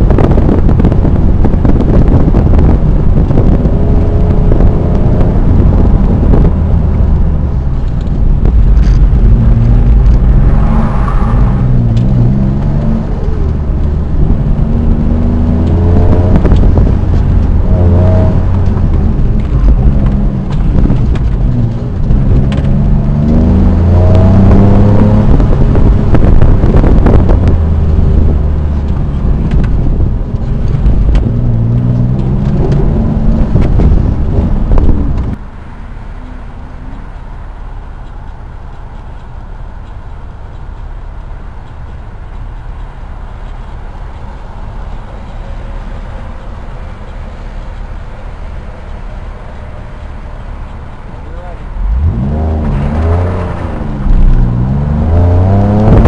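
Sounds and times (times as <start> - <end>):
heavy low rumble: 0.0 - 56.0
sports car engine revving: 0.0 - 56.0.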